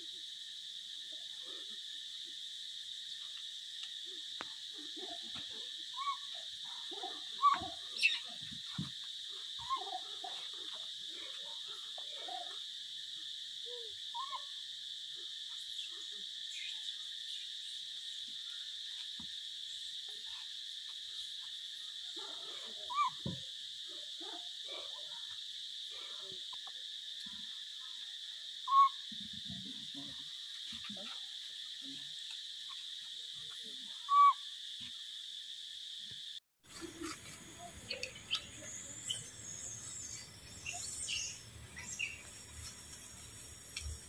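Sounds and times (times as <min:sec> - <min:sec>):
high-pitched insect drone: 0:00.0 - 0:44.0.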